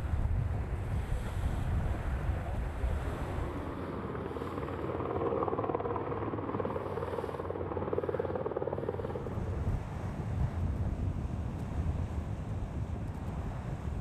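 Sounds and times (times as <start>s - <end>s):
helicopter flying low: 0.0s - 14.0s
wind buffeting microphone: 0.0s - 14.0s.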